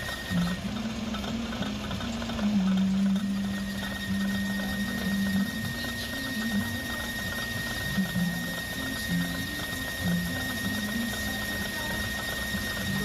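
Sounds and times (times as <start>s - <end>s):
low machine hum: 0.0s - 13.0s
machine tool whine: 0.0s - 13.0s.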